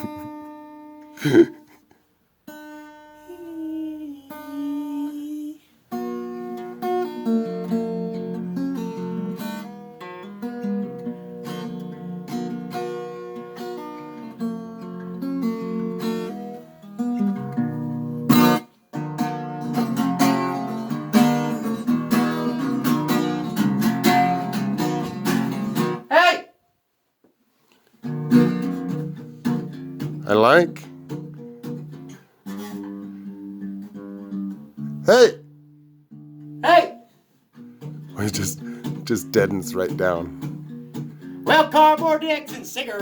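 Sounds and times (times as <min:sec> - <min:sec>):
acoustic guitar playing: 0:00.0 - 0:26.1, 0:28.0 - 0:43.0.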